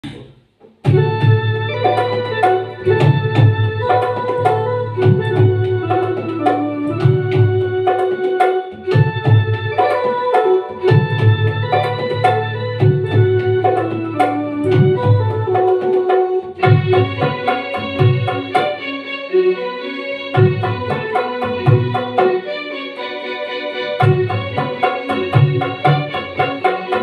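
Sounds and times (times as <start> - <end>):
dholak beat: 0.8 - 18.8, 20.4 - 22.4, 24.0 - 27.0
electronic keyboard melody: 0.8 - 27.0.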